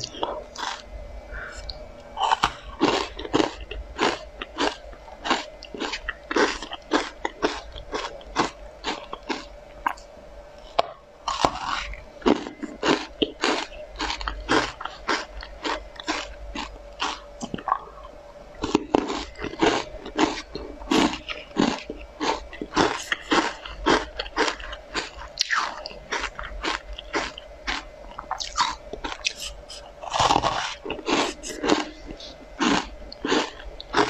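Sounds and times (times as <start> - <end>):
crunching crisp cookies: 1.5 - 10.0, 10.8 - 34.0.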